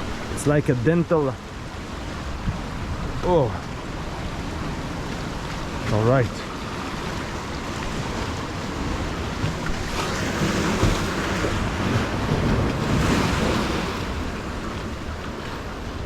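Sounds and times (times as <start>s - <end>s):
sea surf on rocky shore: 0.0s - 16.0s
wind buffeting microphone: 1.5s - 16.0s.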